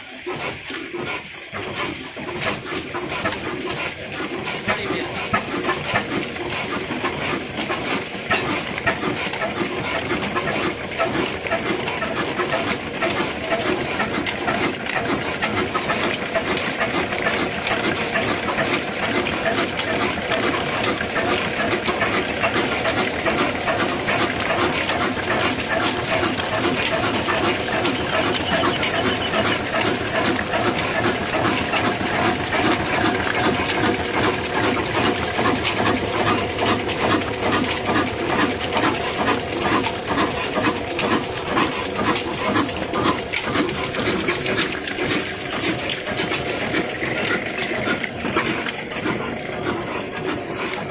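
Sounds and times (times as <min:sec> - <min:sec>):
diesel engine clattering: 0:00.0 - 0:50.9.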